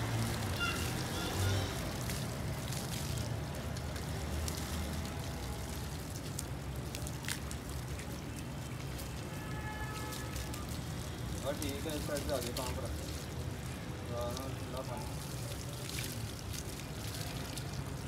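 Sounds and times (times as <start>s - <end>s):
hose water spraying and splashing: 0.0s - 18.0s.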